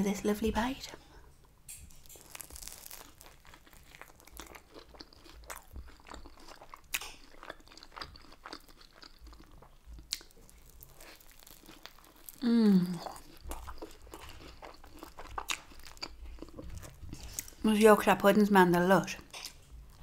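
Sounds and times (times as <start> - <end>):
person chewing with soft crunches: 0.9 - 17.7, 19.1 - 20.0.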